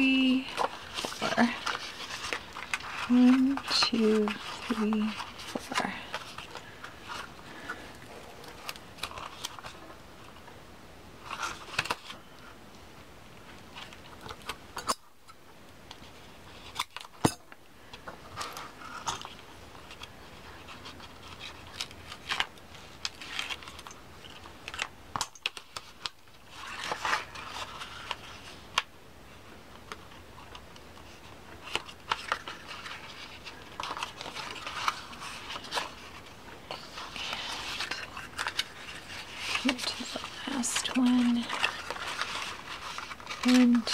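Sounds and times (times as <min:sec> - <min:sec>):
paper rustling and crinkling: 0:00.0 - 0:10.6, 0:11.2 - 0:12.6, 0:13.4 - 0:15.0, 0:15.8 - 0:43.9.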